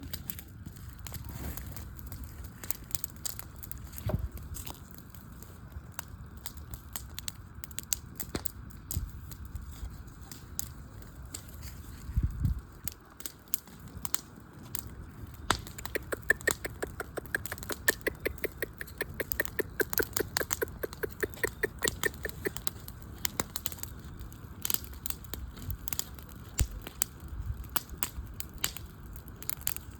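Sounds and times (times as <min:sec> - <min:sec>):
campfire crackling and popping: 0:00.0 - 0:29.9.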